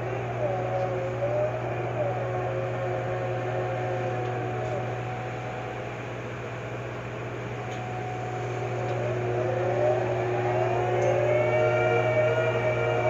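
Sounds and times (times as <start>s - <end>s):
crane engine and winch humming: 0.0s - 13.0s
rising machinery whine: 0.0s - 13.0s.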